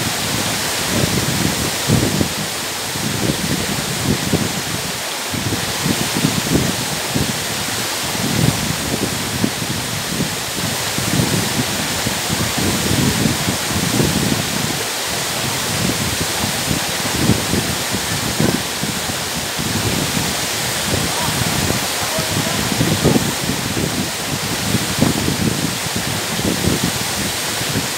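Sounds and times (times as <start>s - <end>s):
waterfall roaring: 0.0s - 27.9s.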